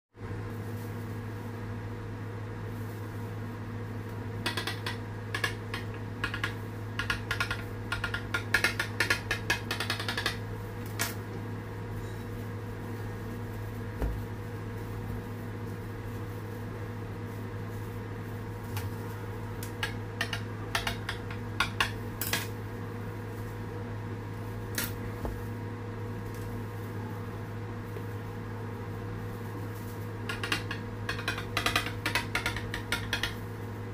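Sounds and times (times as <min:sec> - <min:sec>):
steady low hum: 0:00.2 - 0:33.9.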